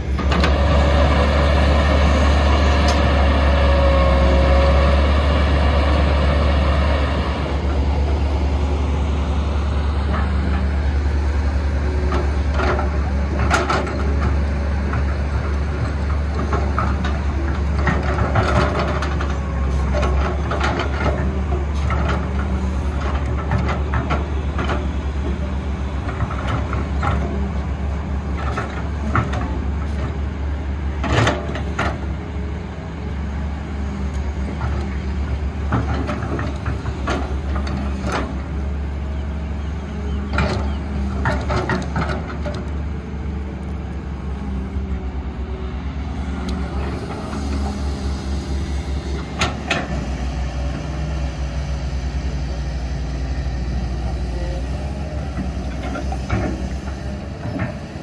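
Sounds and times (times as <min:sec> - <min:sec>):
heavy diesel machinery drone: 0:00.0 - 0:58.0.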